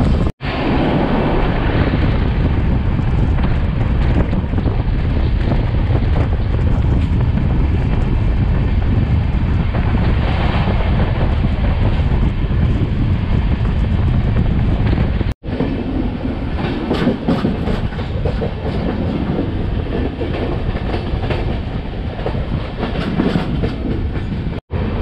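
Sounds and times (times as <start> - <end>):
train running noise: 0.0 - 25.0
wind buffeting the microphone: 0.0 - 25.0.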